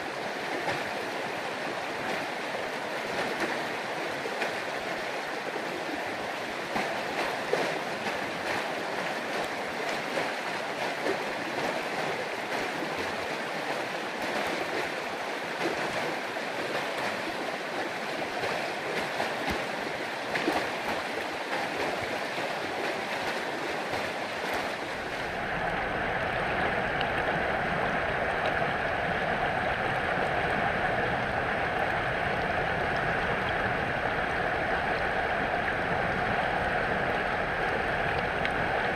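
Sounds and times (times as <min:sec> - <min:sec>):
creek rushing over rocks: 0:00.0 - 0:38.9.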